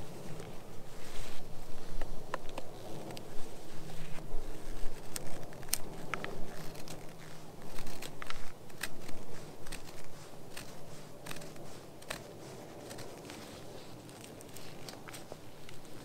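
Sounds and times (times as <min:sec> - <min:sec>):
knife shaving wood: 0:00.4 - 0:16.0.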